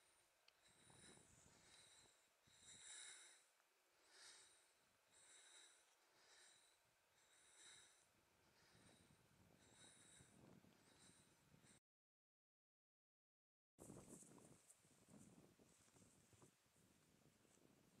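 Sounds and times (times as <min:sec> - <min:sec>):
faint rhythmic breathing: 0:00.0 - 0:11.8, 0:13.8 - 0:18.0.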